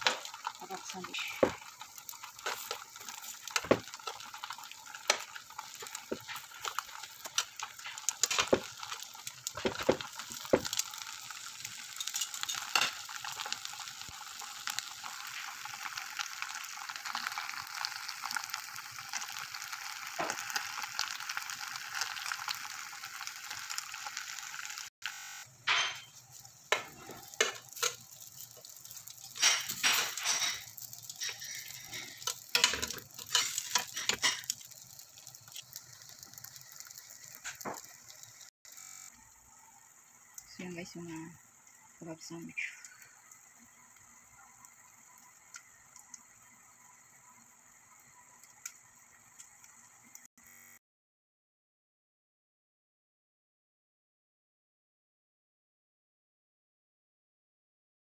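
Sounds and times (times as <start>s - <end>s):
food sizzling on grill pan: 0.0s - 50.8s.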